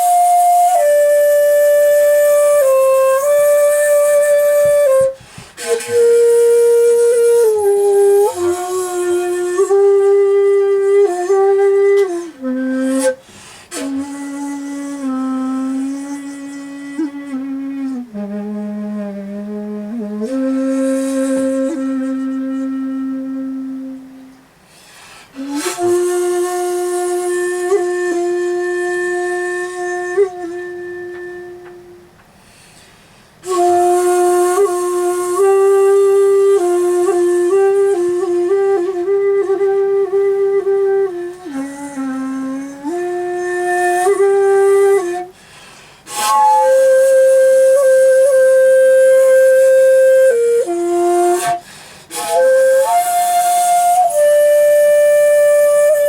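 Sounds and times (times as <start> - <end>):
bamboo flute solo: 0.0 - 56.0.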